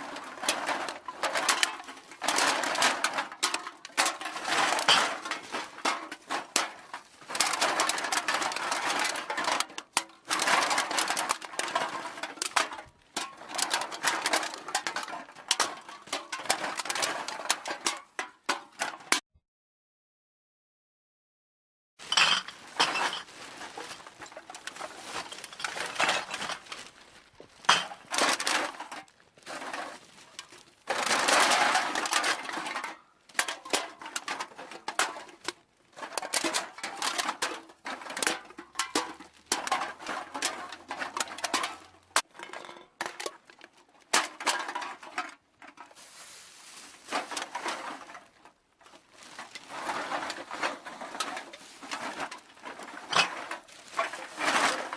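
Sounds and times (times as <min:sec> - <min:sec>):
aluminium cans clinking together: 0:00.0 - 0:19.2, 0:22.0 - 0:26.6, 0:27.6 - 0:29.7, 0:30.4 - 0:46.1, 0:49.6 - 0:54.9.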